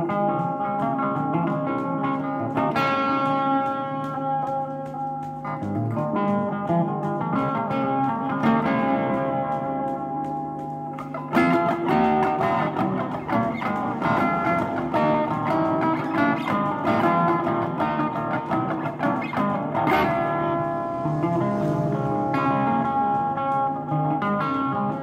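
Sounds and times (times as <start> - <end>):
electric guitar single-note lines: 0.0 - 25.0.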